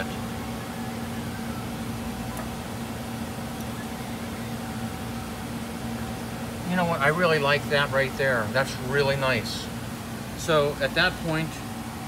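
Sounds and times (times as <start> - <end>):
steady machine hum: 0.0 - 12.0
whirring fans: 0.0 - 12.0.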